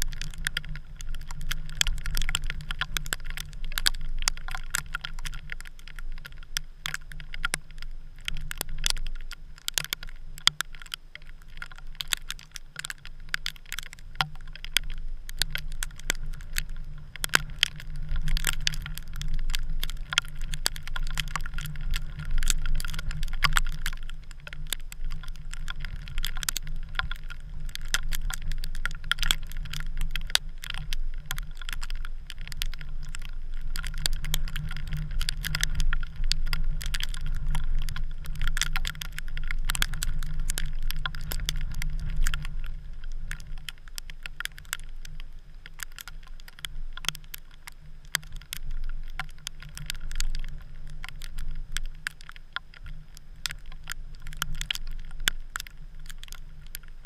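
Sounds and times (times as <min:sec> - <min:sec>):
sharp ticks: 0:00.0 - 0:56.9
wind rumbling on camera: 0:00.0 - 0:57.0.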